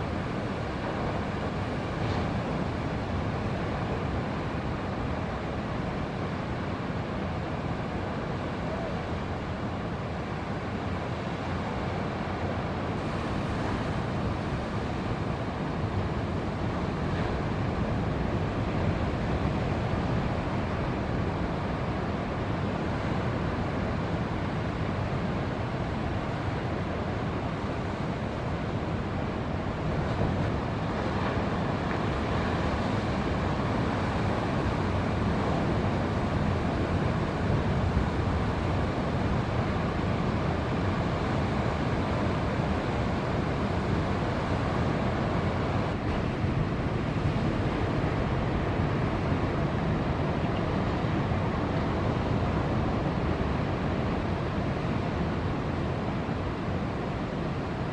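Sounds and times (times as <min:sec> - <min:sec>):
ocean surf breaking: 0:10.2 - 0:57.9.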